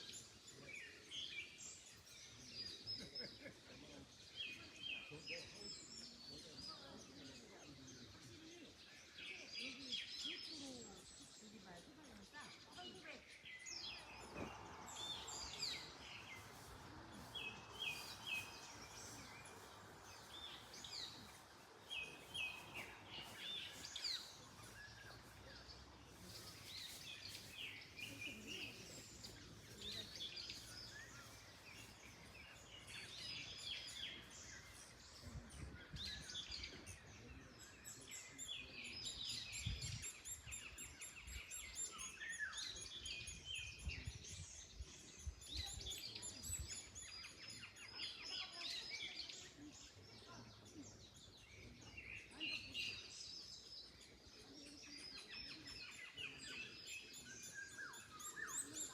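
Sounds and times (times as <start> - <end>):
birds chirping and trilling: 0.0 - 58.9
wind rustling in trees: 0.0 - 58.9.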